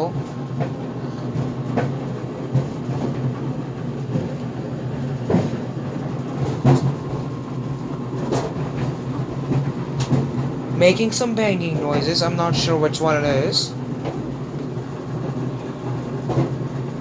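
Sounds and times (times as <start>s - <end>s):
dryer drum rumbling: 0.0s - 17.0s.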